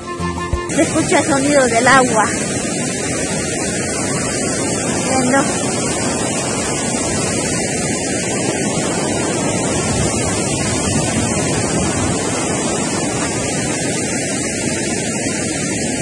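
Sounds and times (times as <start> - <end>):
river rushing over boulders: 0.7 - 16.0
wind buffeting microphone: 0.7 - 16.0.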